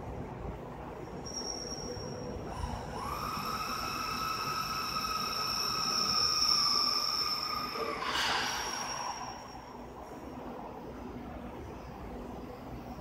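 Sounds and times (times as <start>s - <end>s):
cnc router high-pitched whine: 0.9s - 13.0s.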